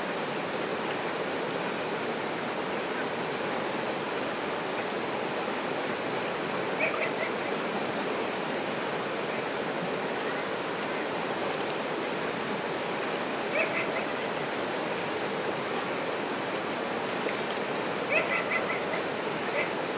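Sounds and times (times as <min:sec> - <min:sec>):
river rapids rushing over rocks: 0:00.0 - 0:19.9.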